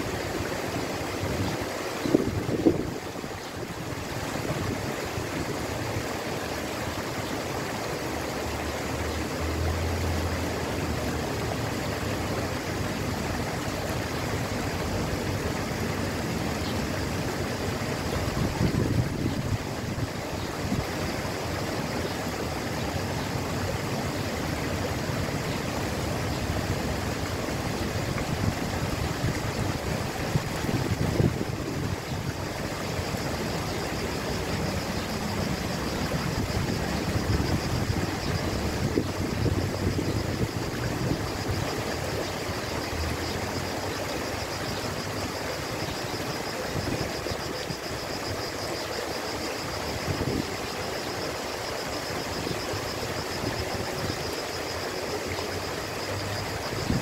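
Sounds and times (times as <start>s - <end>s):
water cascading down rocks: 0.0s - 57.0s.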